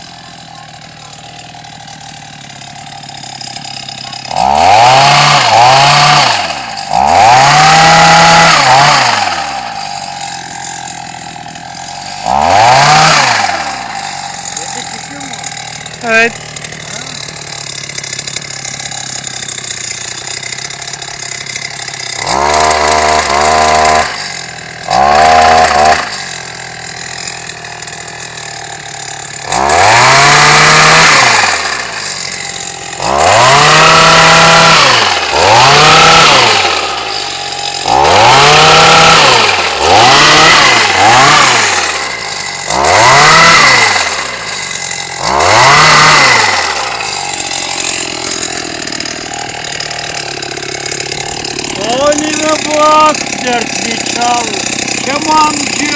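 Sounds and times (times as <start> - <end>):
engine idling and revving: 0.0 - 55.9.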